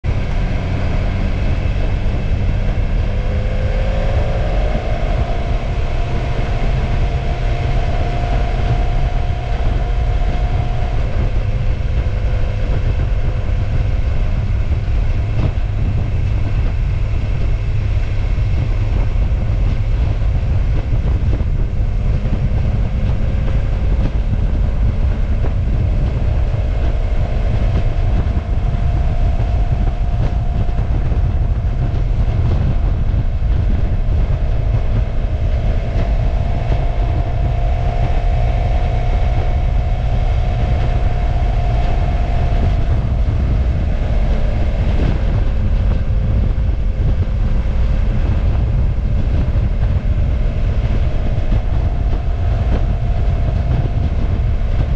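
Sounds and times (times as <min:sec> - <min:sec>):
motorcycle engine running: 0:00.0 - 0:54.9
wind rumble on microphone: 0:00.0 - 0:54.9.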